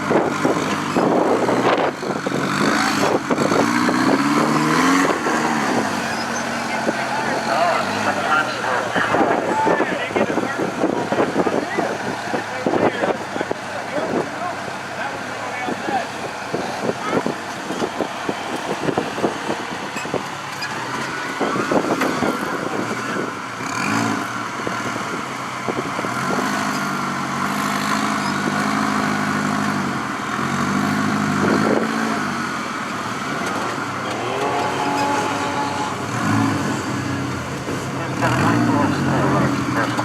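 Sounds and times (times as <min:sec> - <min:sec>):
buggy engine revving: 0:00.0 - 0:40.0.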